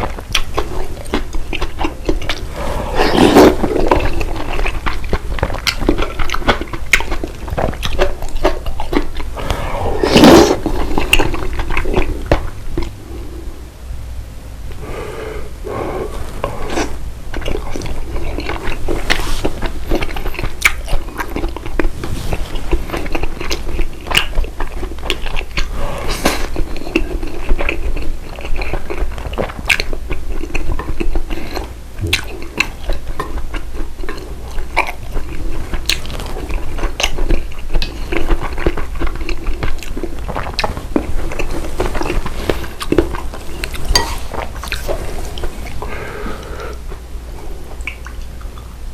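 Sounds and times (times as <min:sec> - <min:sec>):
person chewing crunchy food: 0:00.0 - 0:13.0, 0:15.6 - 0:48.7.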